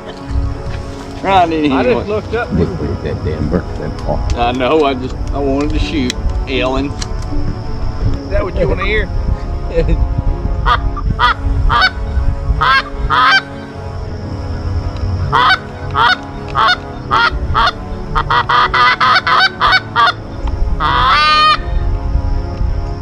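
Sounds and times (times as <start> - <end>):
geese honking: 0.0 - 9.9, 10.6 - 21.9.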